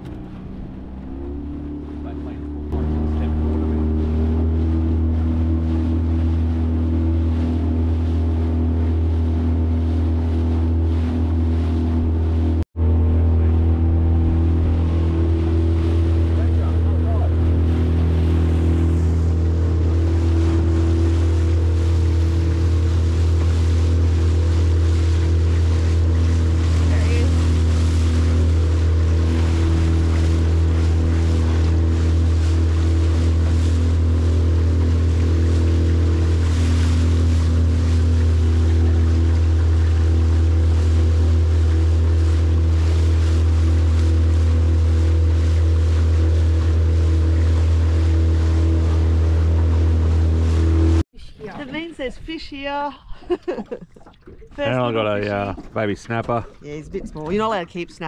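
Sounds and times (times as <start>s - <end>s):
outboard motor running: 0.0s - 58.0s
water splashing against hull: 0.0s - 58.0s.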